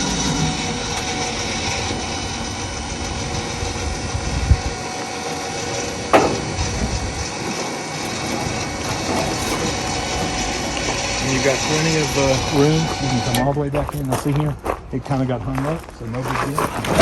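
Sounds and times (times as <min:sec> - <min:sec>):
electric winch running: 0:00.0 - 0:13.6.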